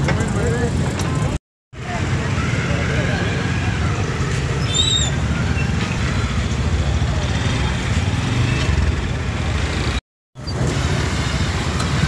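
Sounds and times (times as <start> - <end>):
low rumble of road traffic: 0.0 - 12.0.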